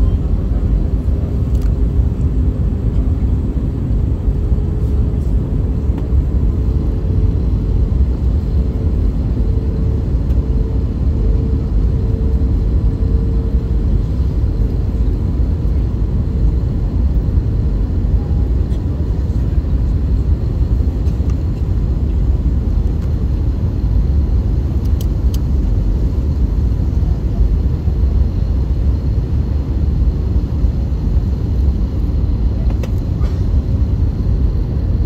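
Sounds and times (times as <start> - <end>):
airliner cabin noise: 0.0 - 35.0.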